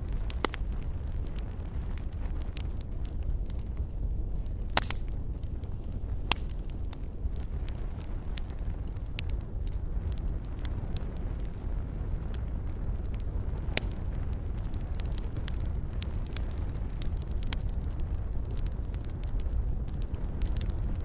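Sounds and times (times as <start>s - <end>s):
fireplace fire crackling: 0.0s - 21.0s
low rumble of flames: 0.0s - 21.0s.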